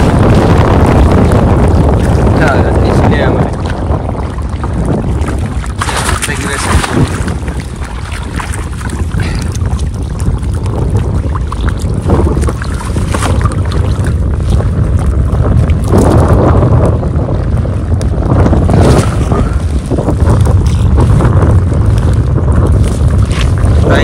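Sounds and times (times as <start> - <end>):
water noise: 0.0 - 24.0
wind buffeting microphone: 0.0 - 24.0.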